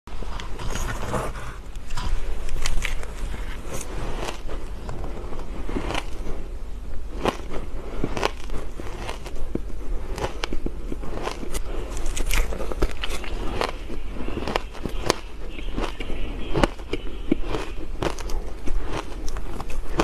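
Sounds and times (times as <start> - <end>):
person chewing crunchy ice: 0.7 - 20.0.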